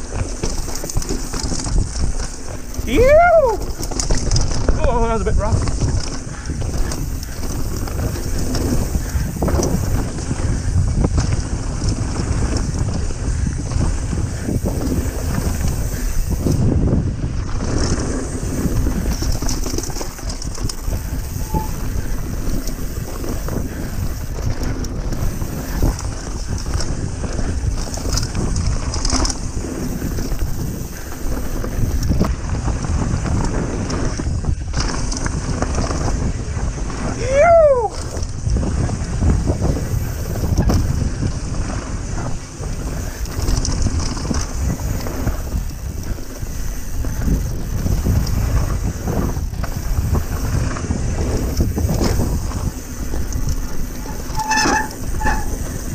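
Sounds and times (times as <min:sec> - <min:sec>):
bike rattling and knocking: 0:00.0 - 0:55.9
tyres rumbling over ground: 0:00.0 - 0:55.9
wind buffeting microphone: 0:00.0 - 0:55.9.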